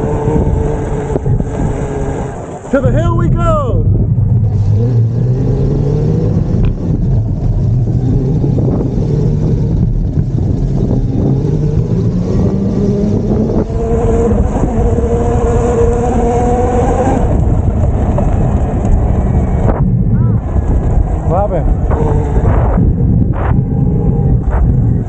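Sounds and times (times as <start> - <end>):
low rumble of tyres and wind: 0.0 - 25.0
electric bike motor whining: 4.1 - 25.0.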